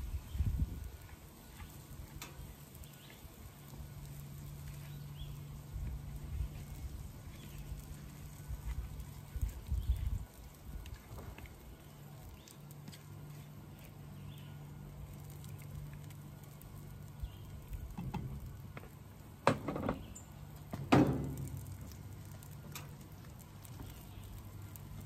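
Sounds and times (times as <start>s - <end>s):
pancakes sizzling on a griddle: 0.0s - 25.0s
steady low hum: 0.0s - 25.0s.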